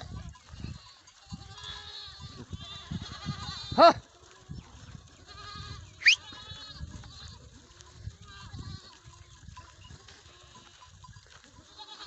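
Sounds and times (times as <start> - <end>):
goats bleating: 0.1 - 12.0.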